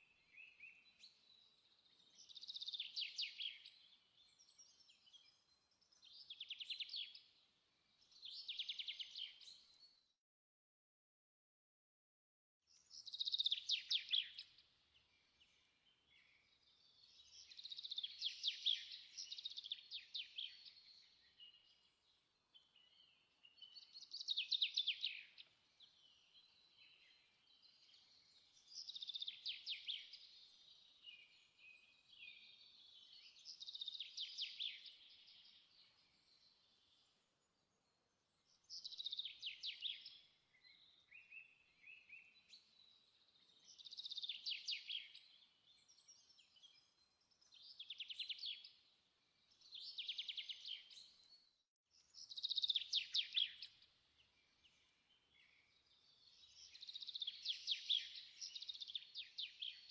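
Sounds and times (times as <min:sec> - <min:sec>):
songbird singing: 0:00.0 - 0:10.1, 0:12.7 - 0:59.9.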